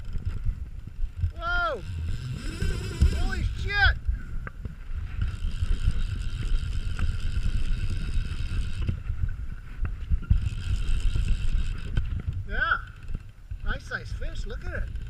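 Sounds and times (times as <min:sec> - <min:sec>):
handling rumble: 0:00.0 - 0:15.0
wind buffeting microphone: 0:00.0 - 0:15.0.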